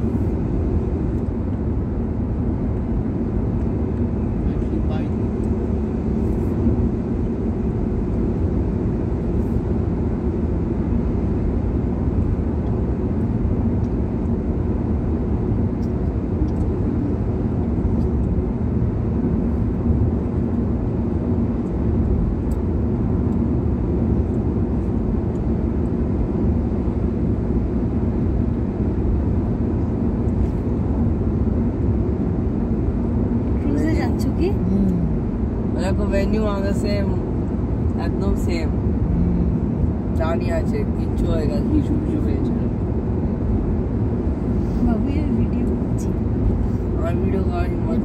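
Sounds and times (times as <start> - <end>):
road and engine rumble in car: 0.0 - 48.0.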